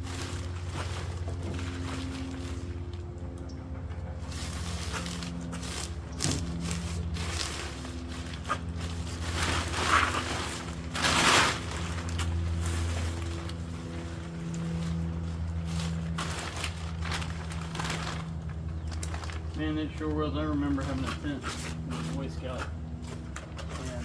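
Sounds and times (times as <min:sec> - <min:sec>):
nylon tent fabric rustling: 0:00.0 - 0:02.9, 0:04.3 - 0:22.6.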